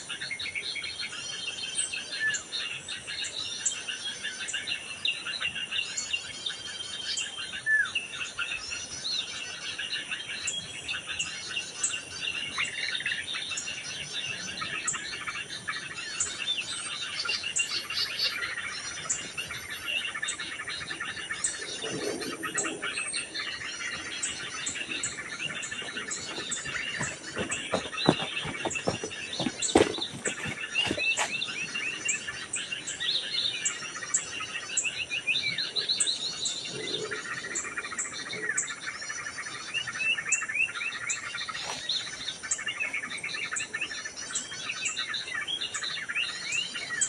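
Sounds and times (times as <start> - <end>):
small birds chirping: 0.0 - 47.0
insects buzzing: 6.8 - 45.3.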